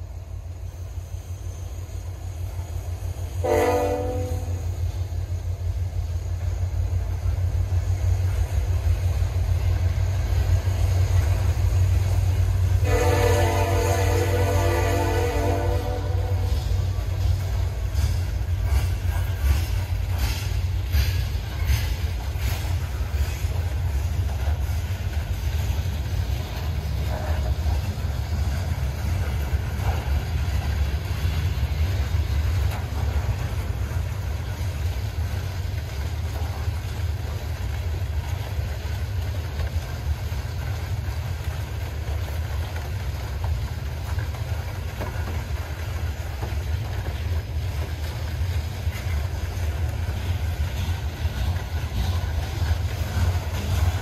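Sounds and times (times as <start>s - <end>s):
freight train rumbling by: 0.0s - 54.0s.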